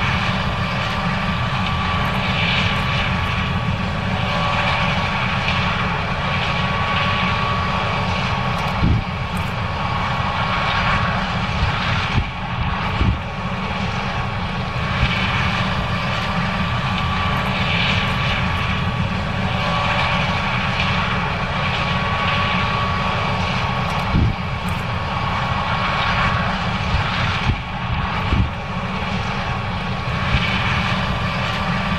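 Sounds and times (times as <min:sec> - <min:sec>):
combine harvester engine drone: 0:00.0 - 0:31.9
high machinery whine: 0:00.0 - 0:31.9.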